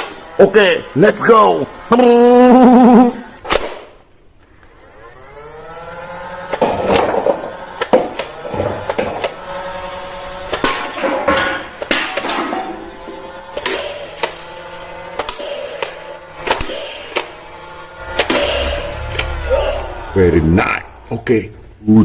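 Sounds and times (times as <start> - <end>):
toy gun motor whining: 0.0 - 3.5, 4.5 - 20.4.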